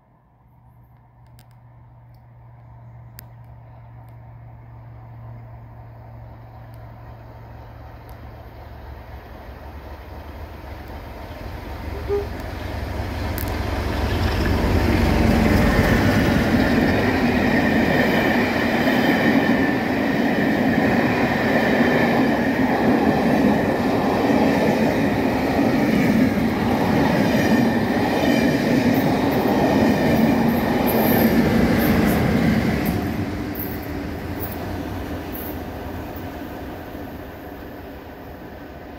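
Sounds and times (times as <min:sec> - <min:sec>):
passenger train passing: 0:00.0 - 0:38.9.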